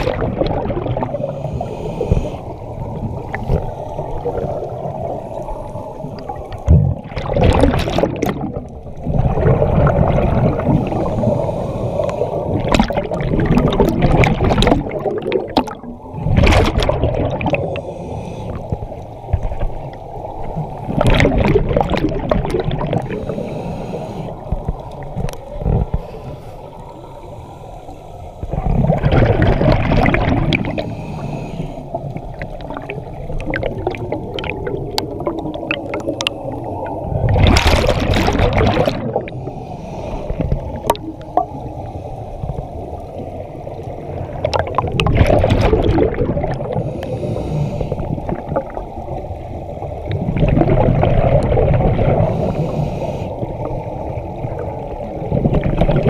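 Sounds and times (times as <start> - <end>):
exhaled air bubbling underwater: 0.0 - 56.0.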